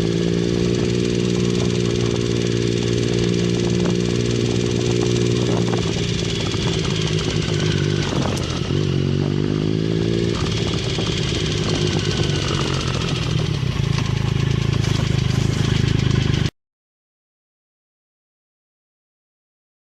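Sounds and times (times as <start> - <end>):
motorcycle engine ticking: 0.0 - 16.5.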